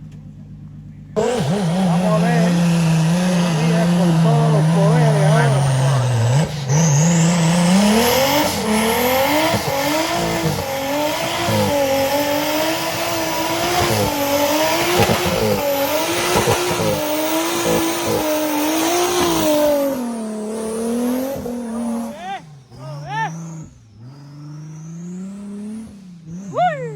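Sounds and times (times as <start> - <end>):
engine revving hard: 1.2 - 26.9.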